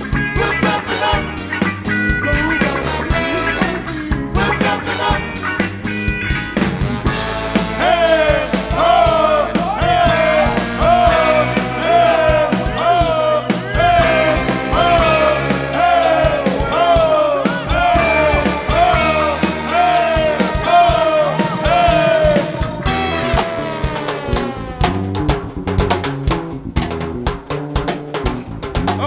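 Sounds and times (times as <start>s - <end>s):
bass: 0.0s - 29.0s
steady drumbeat: 0.0s - 29.0s.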